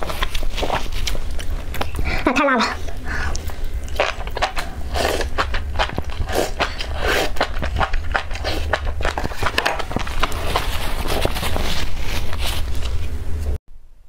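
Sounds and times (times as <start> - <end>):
person slurping and chewing: 0.0 - 12.9.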